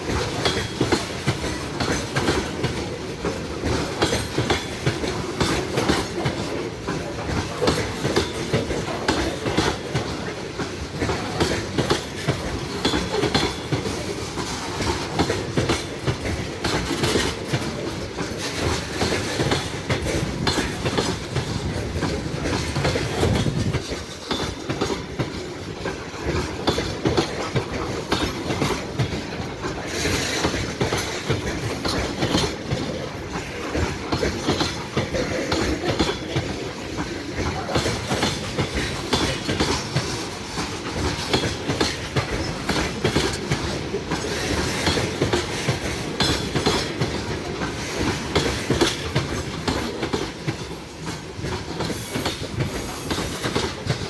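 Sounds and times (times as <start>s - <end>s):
train wheels clacking: 0.0s - 54.0s.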